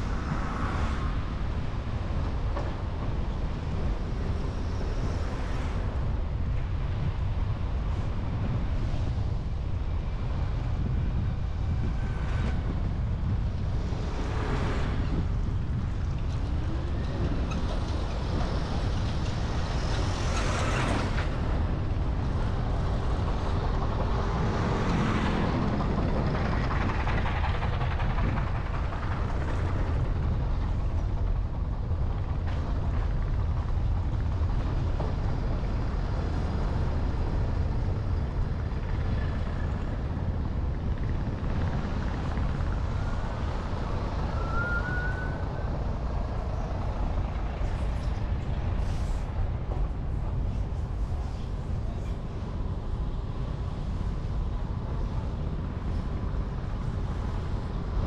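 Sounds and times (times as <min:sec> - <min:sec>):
traffic rumble: 0:00.0 - 0:58.0
vehicles passing: 0:00.0 - 0:58.0.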